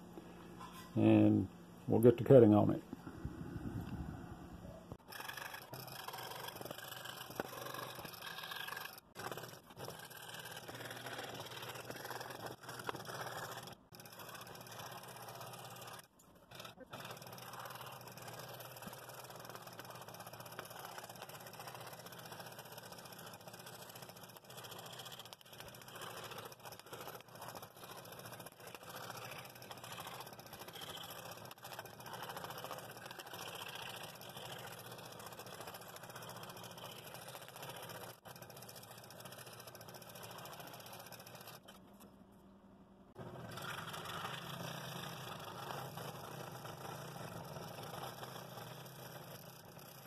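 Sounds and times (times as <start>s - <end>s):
scroll saw cutting plywood: 5.0s - 42.1s, 43.2s - 50.0s.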